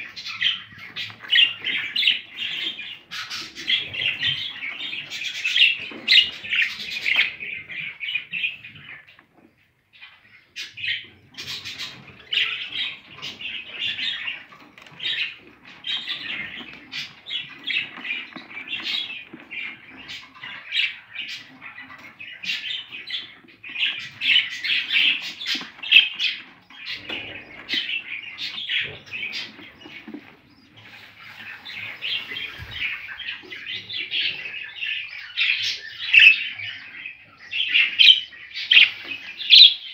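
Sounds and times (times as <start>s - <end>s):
budgerigars chirping: 0.0s - 9.2s, 10.0s - 39.9s.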